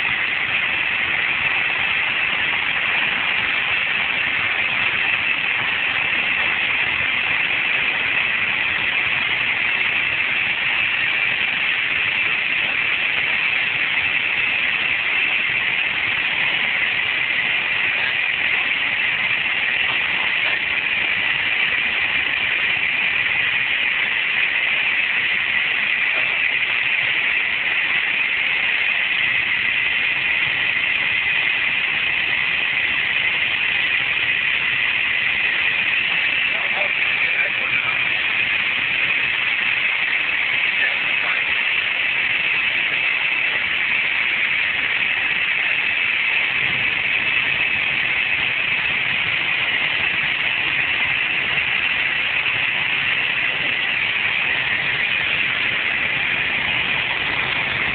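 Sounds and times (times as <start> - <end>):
aircraft engine and propeller: 0.0 - 33.3, 34.6 - 43.8, 53.1 - 57.9
rushing airflow: 0.0 - 57.9.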